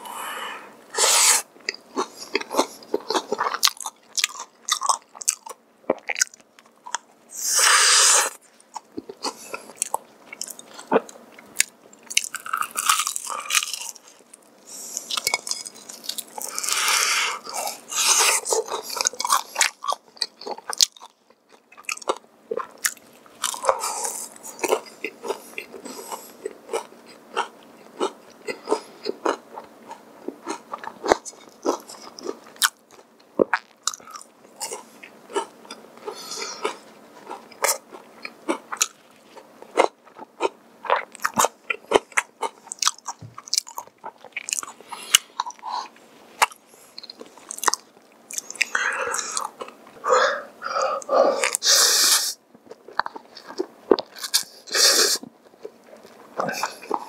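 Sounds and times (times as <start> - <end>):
crunching and chewing fried chicken: 1.6 - 7.1, 8.5 - 50.0, 52.6 - 57.0.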